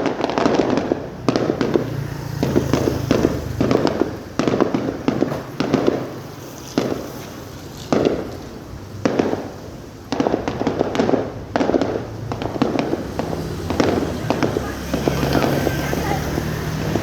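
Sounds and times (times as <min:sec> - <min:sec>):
fireworks bursting: 0:00.0 - 0:17.0
fireworks crackling: 0:00.0 - 0:17.0.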